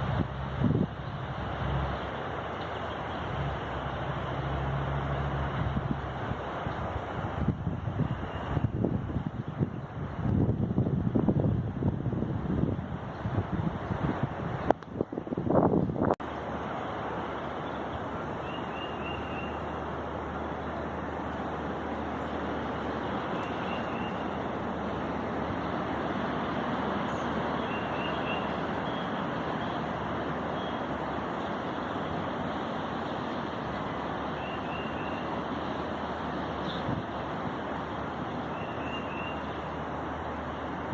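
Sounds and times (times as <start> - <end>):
strong gusty wind: 0.0 - 19.0, 19.6 - 40.9.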